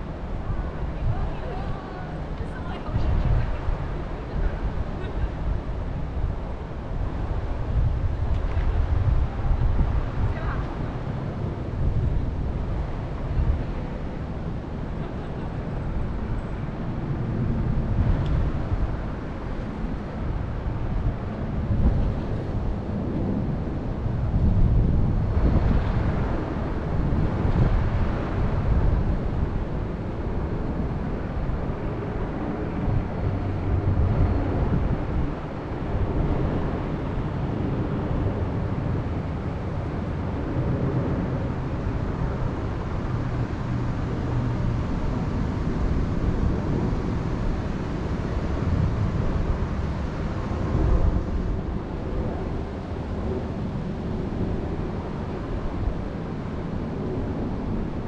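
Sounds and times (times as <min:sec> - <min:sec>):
wind blowing in gusts: 0:00.0 - 0:58.0
wind buffeting microphone: 0:00.0 - 0:58.0.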